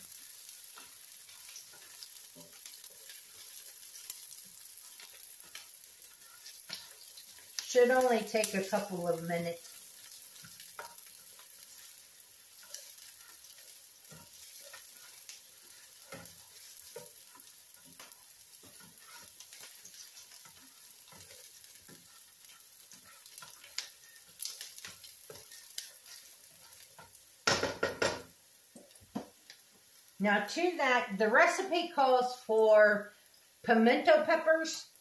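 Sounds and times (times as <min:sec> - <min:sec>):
onion sizzling in a skillet: 0:00.0 - 0:35.0.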